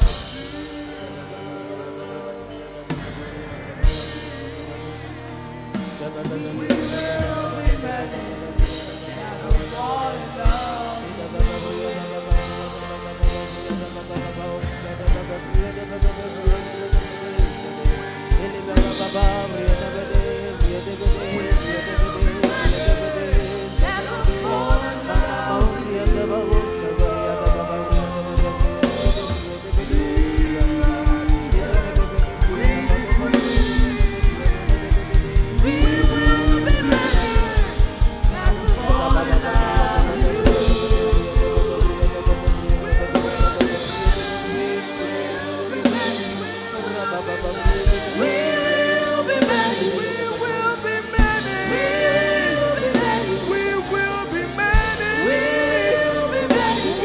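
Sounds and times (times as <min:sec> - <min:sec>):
worship band music: 0:00.0 - 0:57.0.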